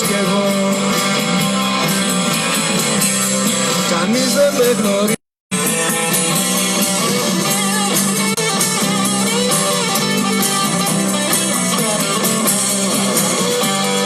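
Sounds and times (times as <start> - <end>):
bass line: 0.0 - 14.0
strummed guitars: 0.0 - 14.0.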